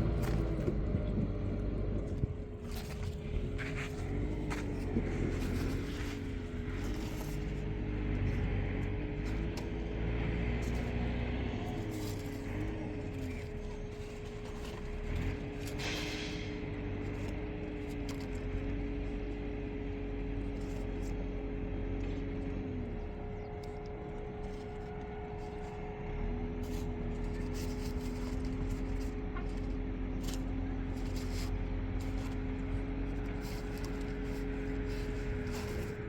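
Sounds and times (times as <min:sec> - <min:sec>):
tractor engine rumbling: 0:00.0 - 0:36.0.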